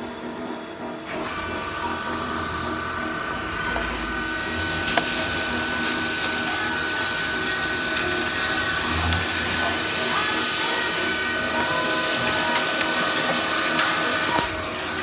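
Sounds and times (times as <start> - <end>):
coolant hiss: 1.0 - 15.0
spindle whine: 1.0 - 15.0.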